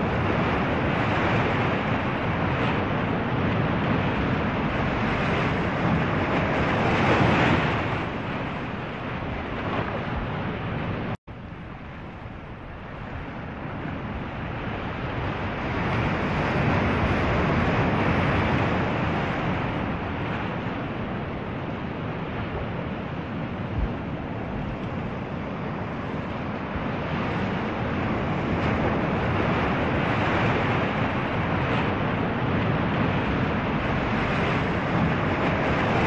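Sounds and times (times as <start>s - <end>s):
sea waves rushing: 0.0s - 36.0s
wind: 0.0s - 36.0s.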